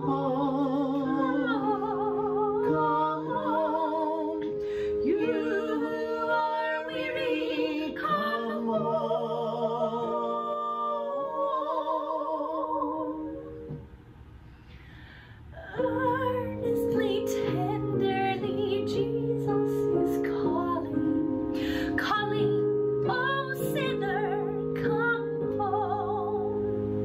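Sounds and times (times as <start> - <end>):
person singing with vibrato: 0.0 - 13.8, 15.5 - 26.8.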